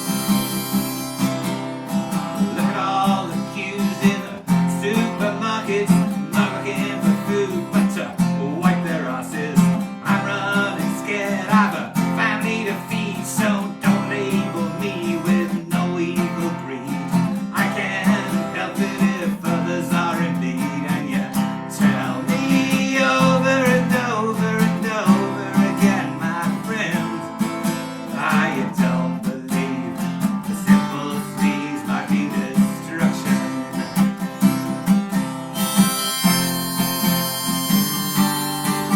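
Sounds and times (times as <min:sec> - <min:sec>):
folk-rock music: 0:00.0 - 0:38.9
strummed acoustic guitar: 0:00.0 - 0:38.9.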